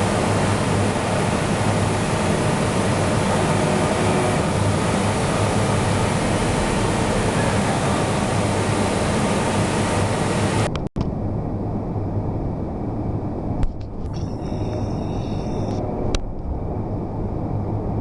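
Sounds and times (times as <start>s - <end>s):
boring machine humming and hissing: 0.0s - 10.7s, 12.7s - 18.0s.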